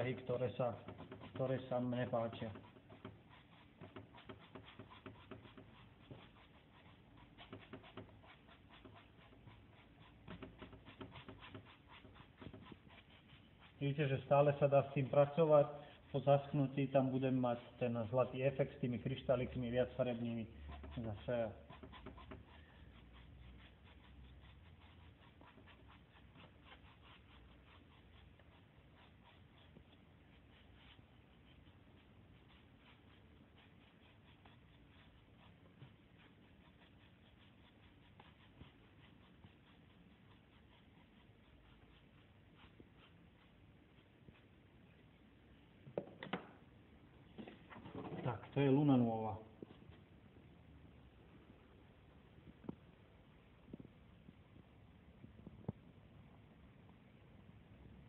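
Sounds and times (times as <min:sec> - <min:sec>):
paintbrush scratching gritty coating: 0:00.0 - 0:45.9, 0:47.2 - 0:50.9.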